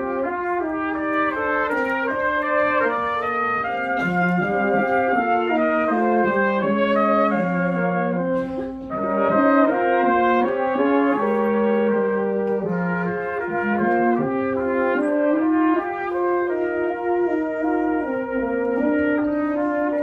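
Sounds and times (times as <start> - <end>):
brass quartet playing chords: 0.0 - 20.0.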